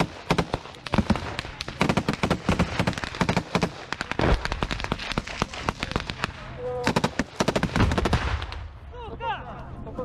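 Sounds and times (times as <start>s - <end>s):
rifle and machine-gun fire: 0.0s - 8.6s.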